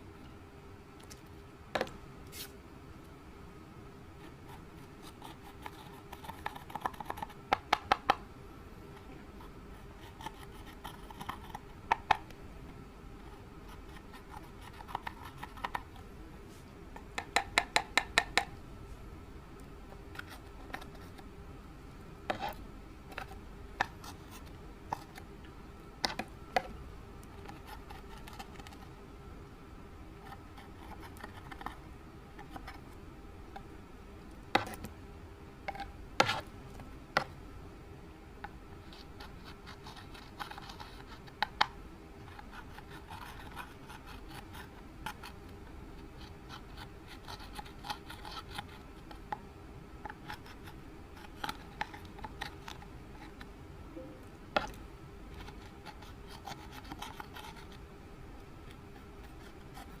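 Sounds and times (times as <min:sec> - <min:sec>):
faint steady hum: 0:00.0 - 1:00.0.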